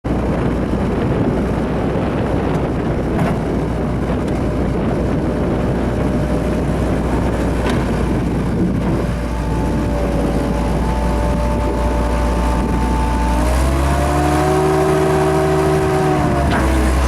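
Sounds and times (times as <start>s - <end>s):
skid steer engine running: 0.1s - 17.0s.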